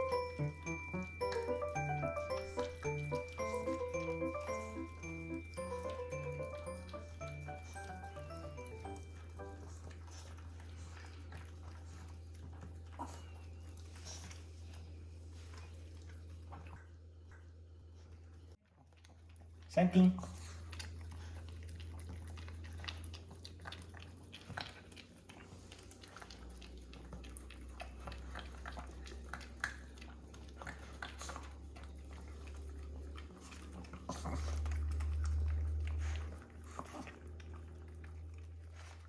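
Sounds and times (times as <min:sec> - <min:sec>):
dogs licking and chewing: 0:00.0 - 0:39.0.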